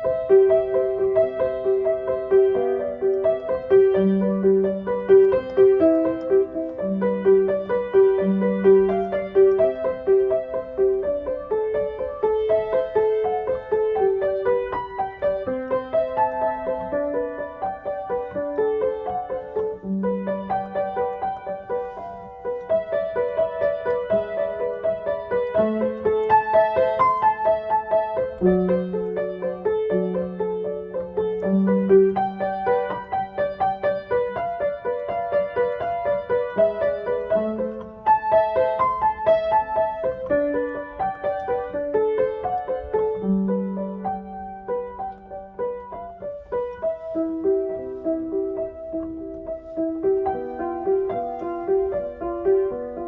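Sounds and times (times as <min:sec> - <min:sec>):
gentle piano melody: 0:00.0 - 0:53.0.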